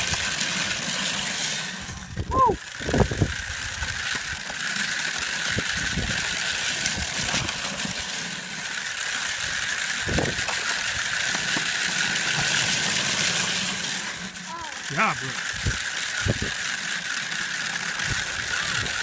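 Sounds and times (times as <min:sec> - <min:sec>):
toy scraping over ice and snow: 0:00.0 - 0:19.0.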